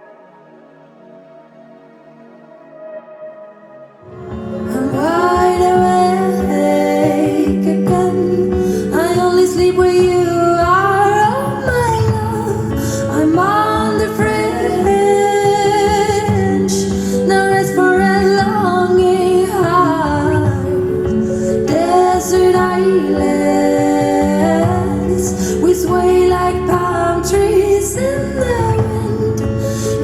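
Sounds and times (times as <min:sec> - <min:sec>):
woman singing over bass and drums: 0:04.1 - 0:30.0.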